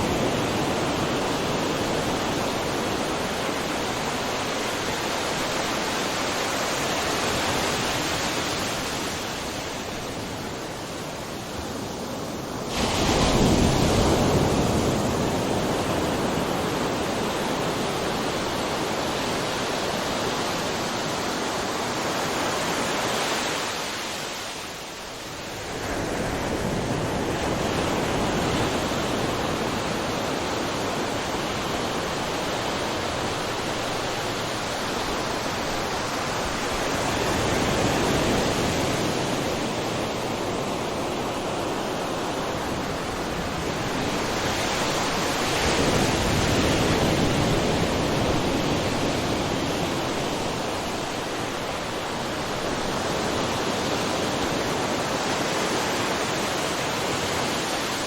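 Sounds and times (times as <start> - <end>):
ocean waves crashing on shore: 0.0 - 58.0.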